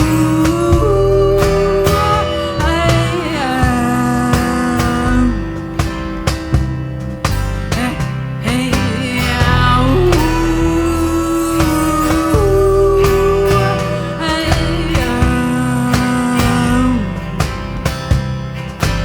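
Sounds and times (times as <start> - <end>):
drum hits: 0.0 - 19.0
electric guitar bending notes: 0.0 - 19.0.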